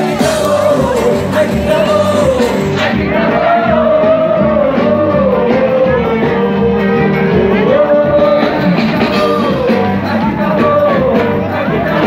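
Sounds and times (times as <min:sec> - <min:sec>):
live band playing: 0:00.0 - 0:12.0
person singing long notes: 0:00.0 - 0:12.0.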